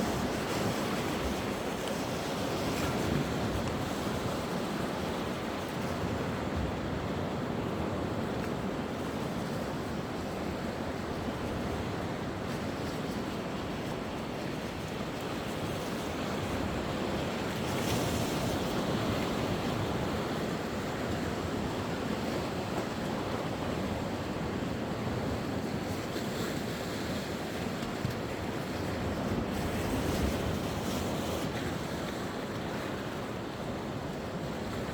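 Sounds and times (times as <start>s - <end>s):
waves breaking on shore: 0.0s - 34.9s.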